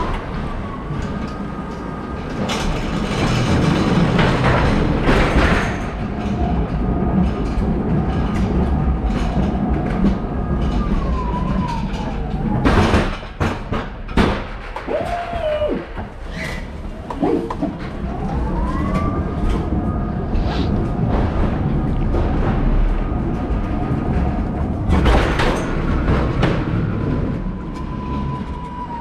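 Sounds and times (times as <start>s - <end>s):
hard wheels rumbling and clattering: 0.0s - 29.0s.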